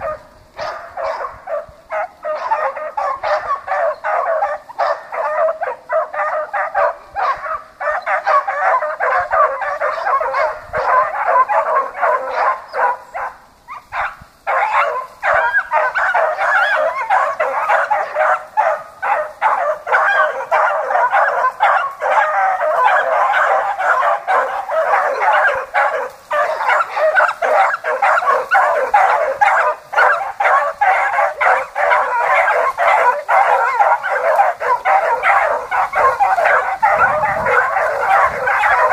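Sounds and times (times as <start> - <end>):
dogs barking and yelping: 0.0 - 38.9.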